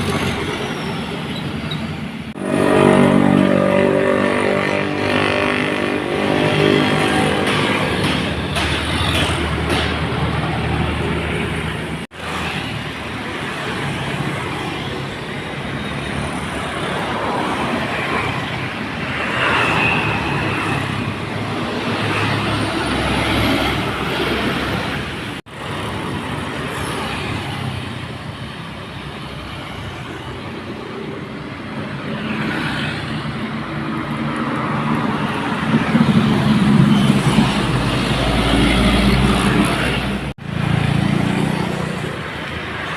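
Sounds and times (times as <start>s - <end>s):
dump truck diesel engines: 0.0s - 42.9s
road traffic noise: 0.0s - 42.9s.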